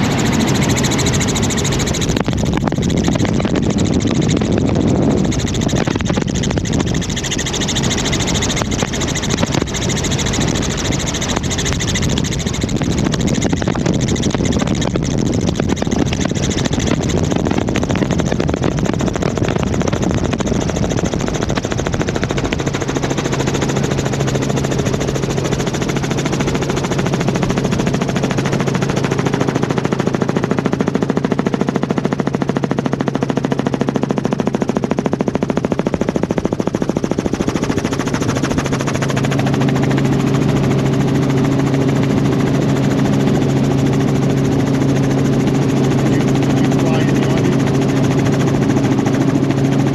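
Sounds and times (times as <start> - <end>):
helicopter rotor chopping: 0.0 - 49.9
steady low hum: 0.0 - 49.9.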